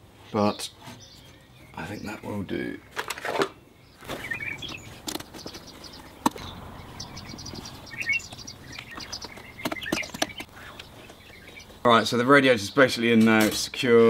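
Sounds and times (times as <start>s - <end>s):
bird chirping: 0.5s - 2.9s, 3.5s - 13.2s.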